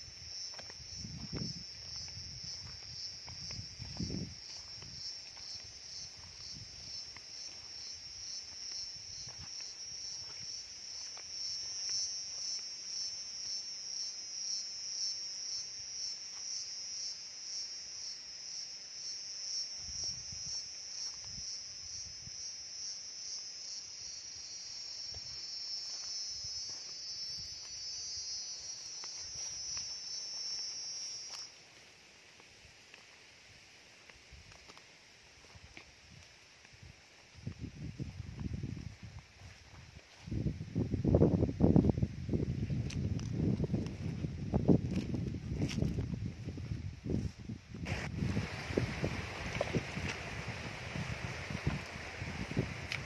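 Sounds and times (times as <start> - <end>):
pulsing insect chorus: 0.0 - 53.0.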